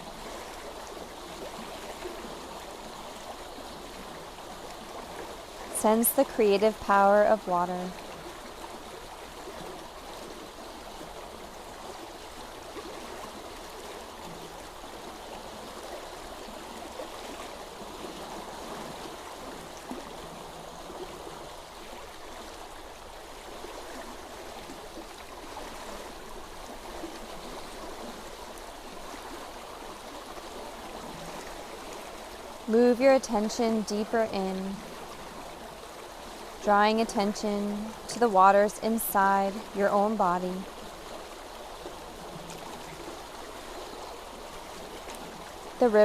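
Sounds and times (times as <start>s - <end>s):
stream of flowing water: 0.0s - 46.0s.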